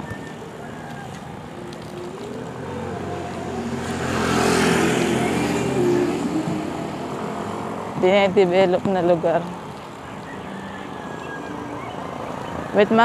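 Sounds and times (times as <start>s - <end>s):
motorcycle passing by: 1.8s - 13.0s.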